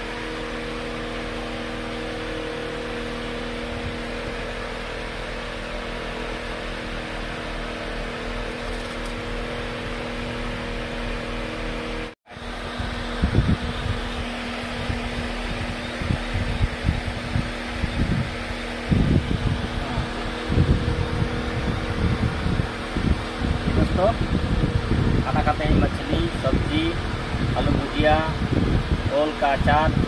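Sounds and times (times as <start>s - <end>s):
steady tones: 0.0s - 29.1s
truck cab hum and hiss: 0.0s - 30.0s.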